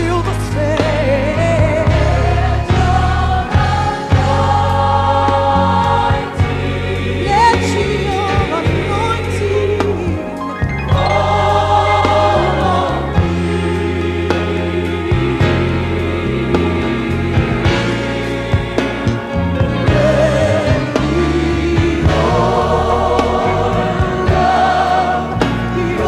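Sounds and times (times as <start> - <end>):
bass line: 0.0 - 26.0
gospel choir singing: 0.0 - 26.0.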